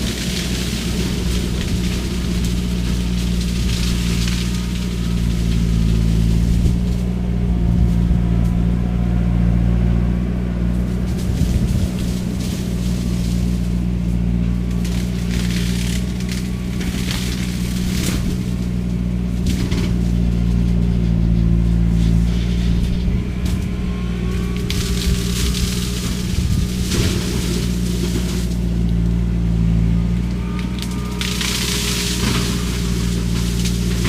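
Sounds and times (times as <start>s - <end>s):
shredder cracking cane: 0.0s - 7.8s, 10.7s - 34.0s
skid steer engine running: 0.0s - 34.0s.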